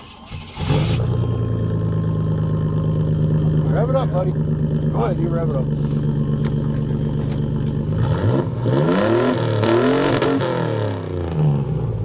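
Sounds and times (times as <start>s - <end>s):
truck engine idling and revving: 0.0s - 12.0s.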